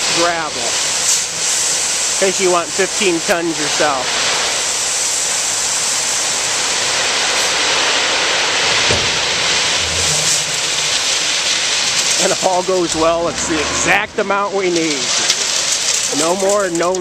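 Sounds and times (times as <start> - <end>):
gravel pouring onto pile: 0.0 - 17.0.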